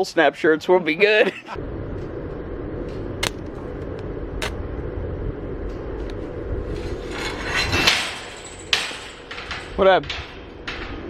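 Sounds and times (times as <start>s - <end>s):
welding rig humming: 1.5s - 11.0s.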